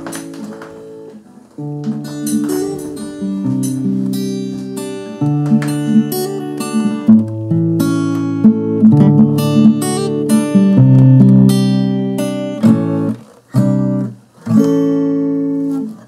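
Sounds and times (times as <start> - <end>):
fingerpicked acoustic guitar: 0.0 - 16.0.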